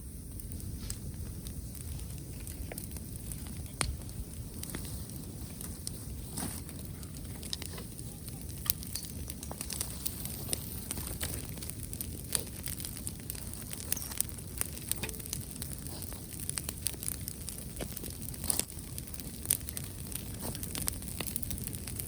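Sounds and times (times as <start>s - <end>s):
bonfire crackling: 0.0s - 22.0s
burning wood popping: 0.0s - 22.0s
low steady rumble: 0.0s - 22.0s.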